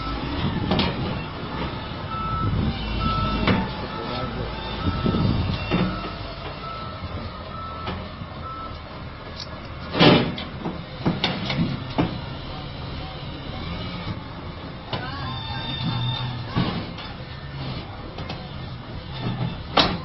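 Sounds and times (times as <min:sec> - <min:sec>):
dump truck engine running: 0:00.0 - 0:20.0.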